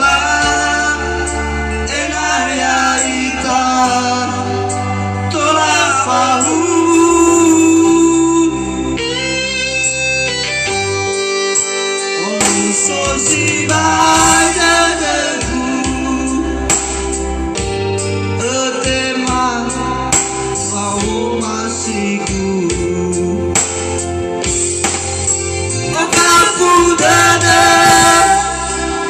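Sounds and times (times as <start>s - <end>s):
man singing: 0.0s - 9.4s, 12.1s - 17.5s, 18.3s - 24.0s, 25.8s - 29.0s
steady bass line: 0.0s - 11.3s, 12.3s - 29.0s
guitar: 0.0s - 29.0s.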